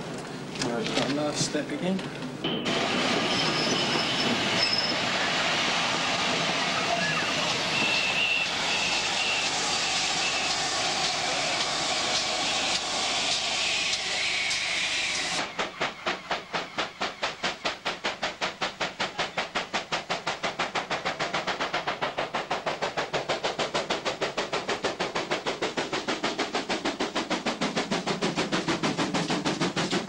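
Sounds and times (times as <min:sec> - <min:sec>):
train coaches rushing past: 0:00.3 - 0:30.0
steam locomotive exhaust beats: 0:02.4 - 0:30.0.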